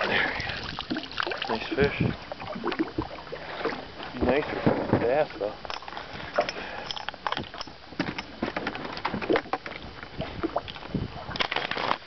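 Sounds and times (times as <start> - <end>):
light water sounds: 0.0 - 8.4, 9.0 - 12.0
knocks and clunks in boat: 1.8 - 11.8.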